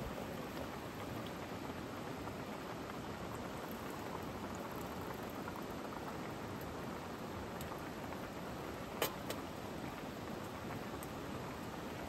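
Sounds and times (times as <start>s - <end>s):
log fire hissing and crackling: 0.0s - 12.0s
pot simmering: 0.0s - 12.0s.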